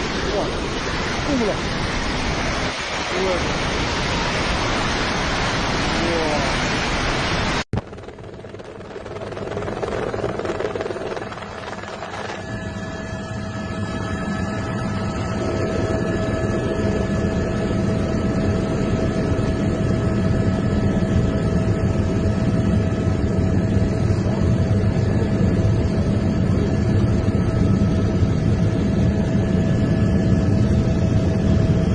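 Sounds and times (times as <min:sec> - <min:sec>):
steady whine: 0:00.0 - 0:31.9.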